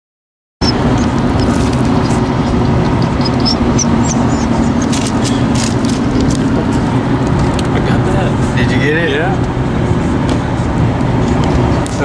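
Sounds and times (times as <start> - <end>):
car cabin road rumble: 0.6 - 12.0.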